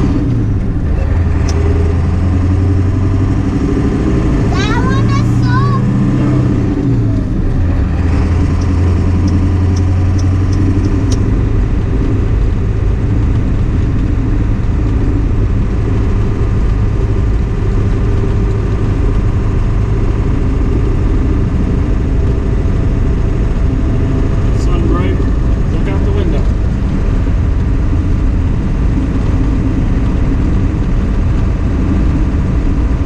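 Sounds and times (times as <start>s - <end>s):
pickup truck engine running: 0.0s - 33.0s.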